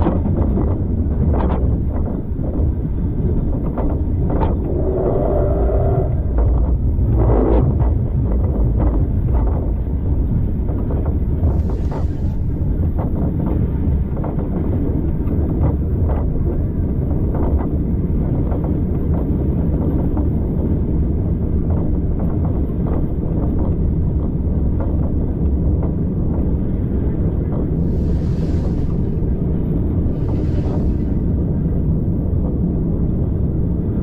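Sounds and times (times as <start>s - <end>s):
train wheels rumbling on rail: 0.0s - 34.0s
wind on microphone: 0.0s - 34.0s.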